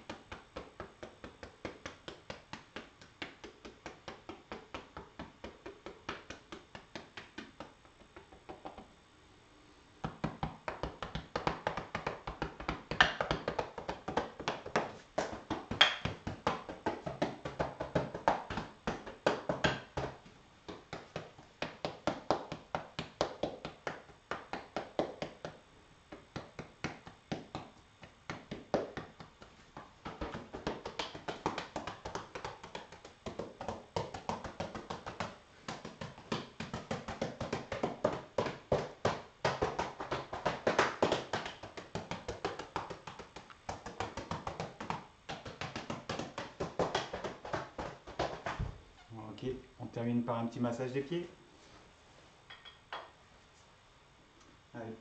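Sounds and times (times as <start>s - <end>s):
wooden sticks tapping on body: 0.0s - 8.9s, 10.0s - 48.8s.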